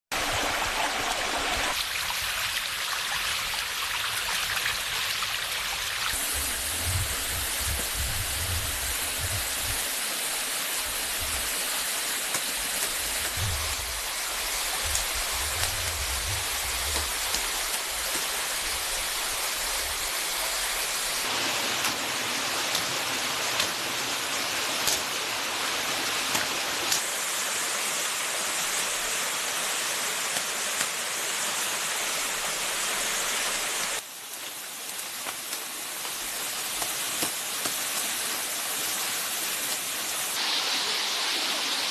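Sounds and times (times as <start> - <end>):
stream running water: 0.1 - 41.9.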